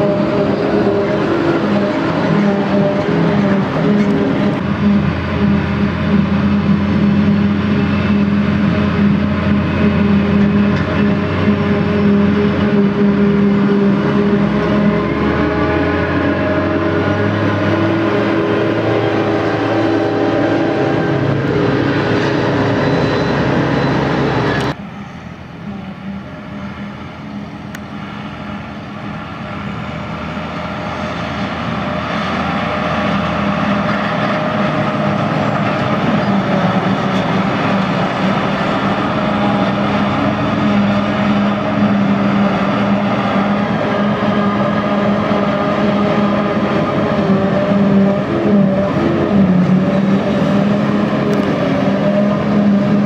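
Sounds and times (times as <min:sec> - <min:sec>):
forage harvester droning: 0:00.0 - 0:53.0.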